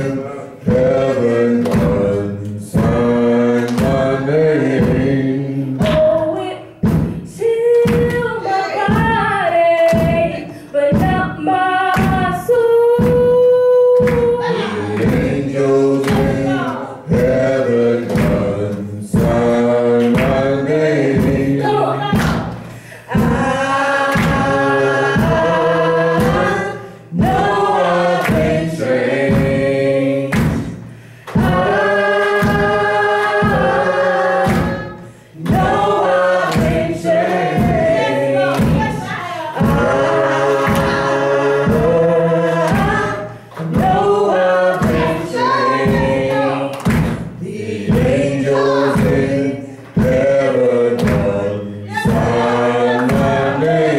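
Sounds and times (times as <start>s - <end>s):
woman singing gospel song: 0.0s - 30.6s, 31.3s - 53.9s
steady beat: 0.0s - 53.9s.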